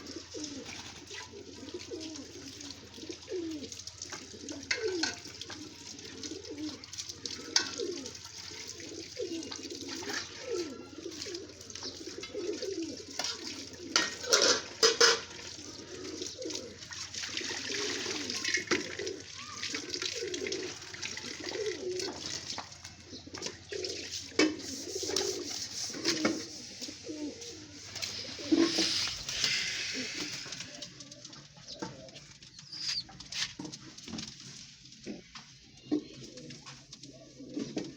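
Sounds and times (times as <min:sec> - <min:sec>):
pigeons cooing: 0:00.0 - 0:33.4, 0:35.0 - 0:37.9.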